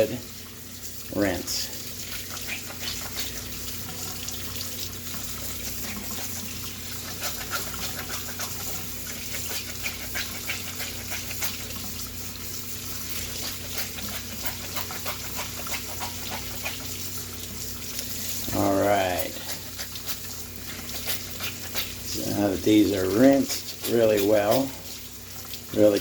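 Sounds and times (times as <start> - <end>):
water running into a sink: 0.0 - 26.0.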